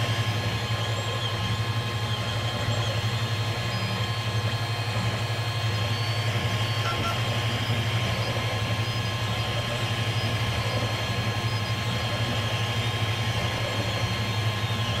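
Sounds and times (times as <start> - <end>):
constant whining tones: 0.0 - 15.0
steady hum: 0.0 - 15.0
stepper motors buzzing: 0.0 - 15.0.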